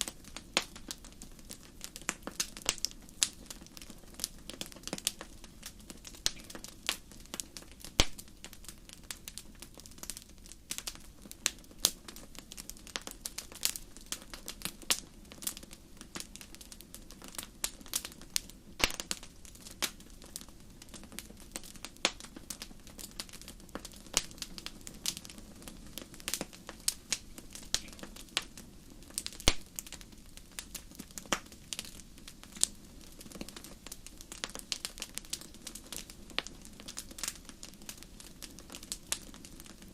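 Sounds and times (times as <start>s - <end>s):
sharp crackles and ticks: 0.0s - 39.9s.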